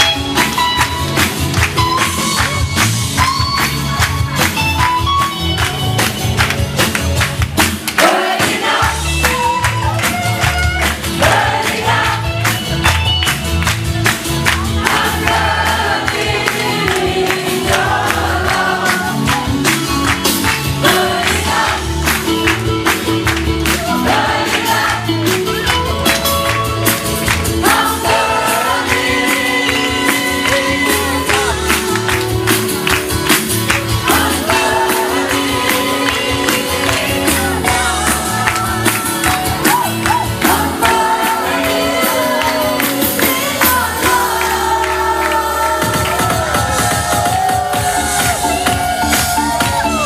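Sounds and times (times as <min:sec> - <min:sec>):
upbeat music with group singing: 0:00.0 - 0:50.0.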